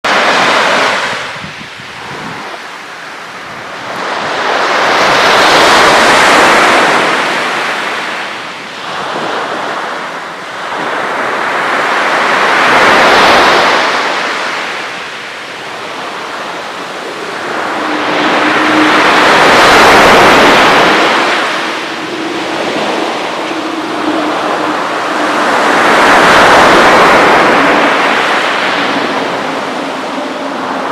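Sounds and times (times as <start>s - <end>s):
waves washing onto shore: 0.1s - 30.9s.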